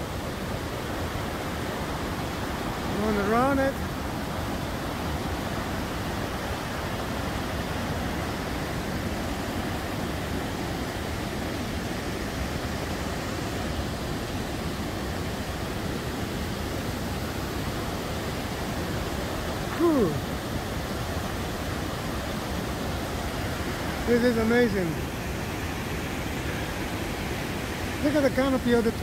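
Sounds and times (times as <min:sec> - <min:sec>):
waterfall and river rushing: 0:00.0 - 0:29.0.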